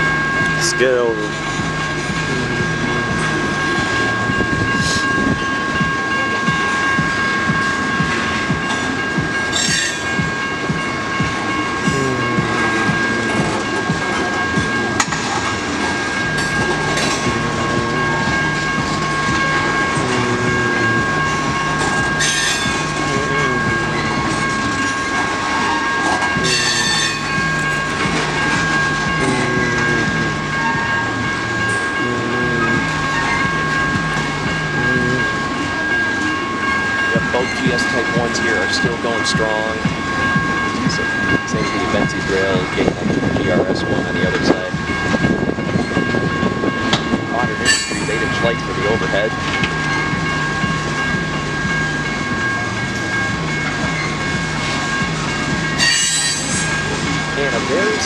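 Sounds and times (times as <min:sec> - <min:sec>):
freight train cars clattering: 0:00.0 - 0:58.0
steady high-pitched ringing tone: 0:00.0 - 0:58.0.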